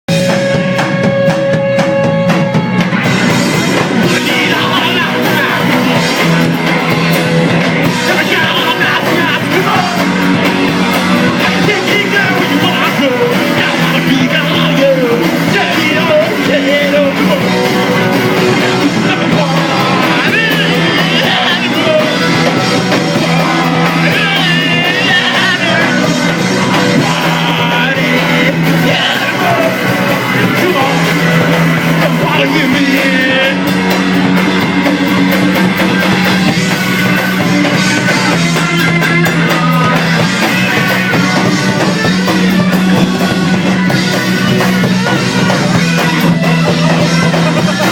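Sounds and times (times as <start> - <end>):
punk rock band playing live: 0.0 - 47.9
yelled singing: 0.1 - 47.9.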